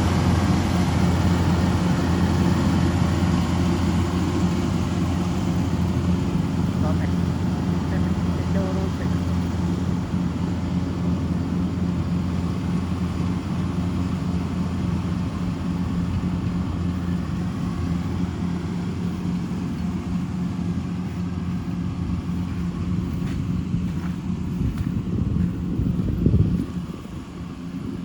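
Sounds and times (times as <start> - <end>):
combine harvester diesel engine: 0.0 - 28.0.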